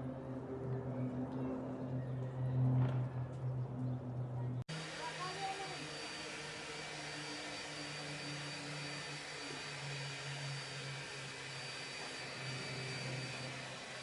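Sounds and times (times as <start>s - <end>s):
jet airplane engines roaring: 0.0s - 14.0s.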